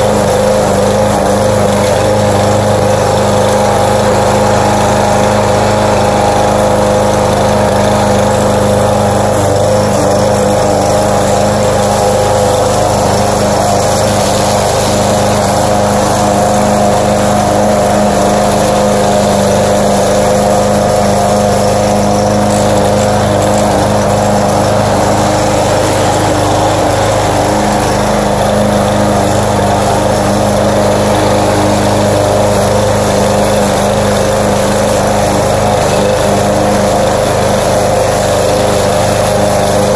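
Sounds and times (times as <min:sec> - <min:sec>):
lawn mower running: 0:00.0 - 0:39.9.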